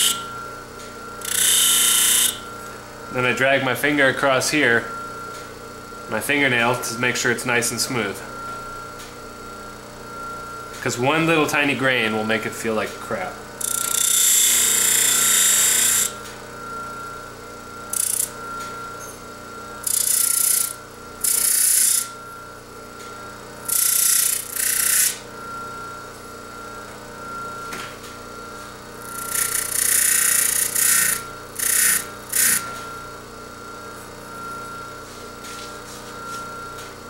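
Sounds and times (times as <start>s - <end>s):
grinding wheel humming: 0.0s - 37.0s.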